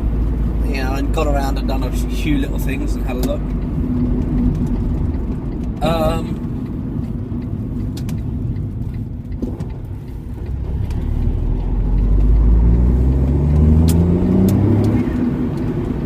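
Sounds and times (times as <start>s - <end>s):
car engine accelerating: 0.0s - 16.0s
road rumble: 0.0s - 16.0s.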